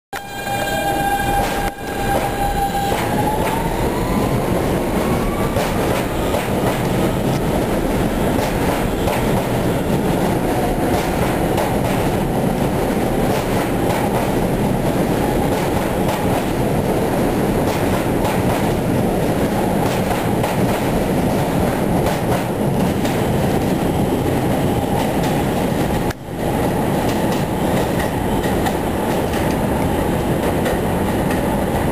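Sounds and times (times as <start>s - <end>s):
wheels rumbling and clicking on track: 5.0s - 31.9s.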